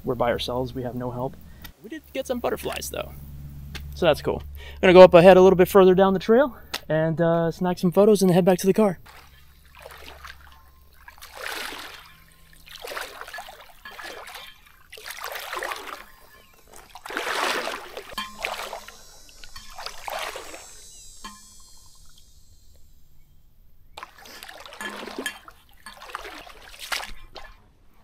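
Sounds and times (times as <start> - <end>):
wading through water: 0.0 - 5.8, 8.2 - 28.0.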